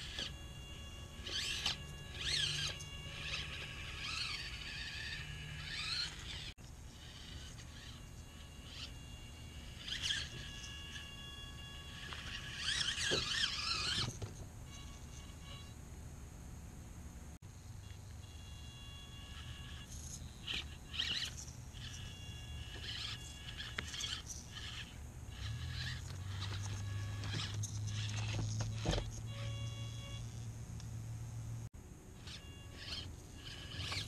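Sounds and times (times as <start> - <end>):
faint electric motor whine: 0.0 - 34.0.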